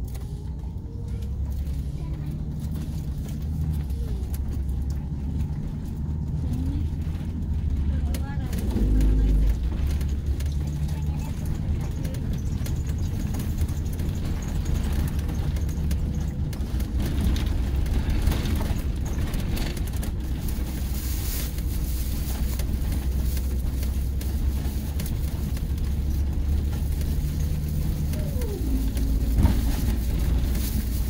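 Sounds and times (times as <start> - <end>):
coach diesel engine humming: 0.0 - 31.0.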